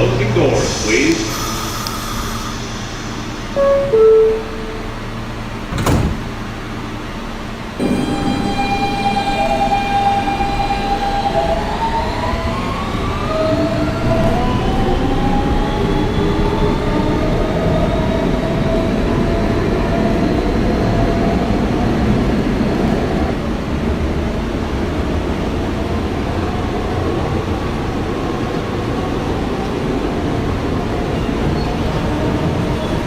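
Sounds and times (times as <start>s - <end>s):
wheel and track rumble: 0.0s - 33.0s.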